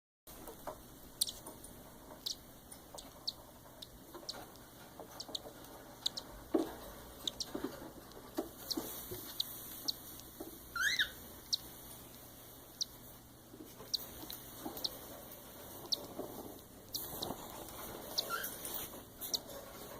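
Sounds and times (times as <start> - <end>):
chicks peeping: 0.4 - 19.9.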